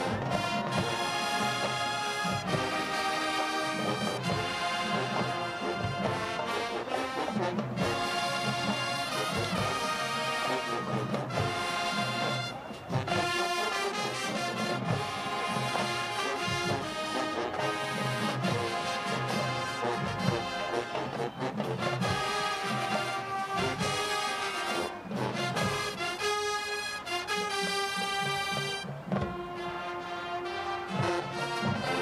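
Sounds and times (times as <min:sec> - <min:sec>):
steady drum beat: 0:00.0 - 0:26.5
marching band brass tune: 0:00.0 - 0:32.0.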